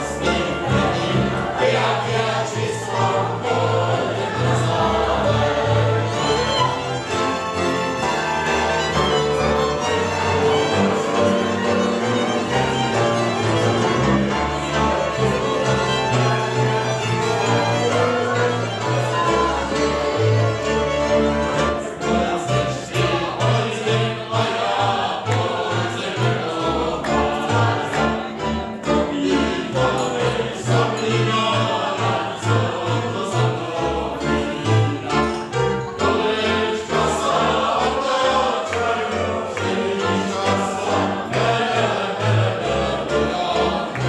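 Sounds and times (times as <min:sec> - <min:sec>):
men singing together: 0:00.0 - 0:44.0
violins playing: 0:00.0 - 0:44.0.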